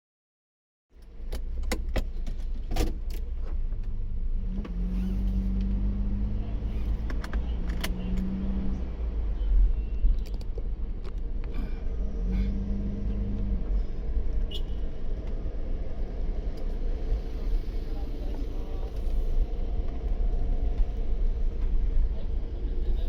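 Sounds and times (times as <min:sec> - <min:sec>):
low vehicle rumble: 0:01.0 - 0:23.0.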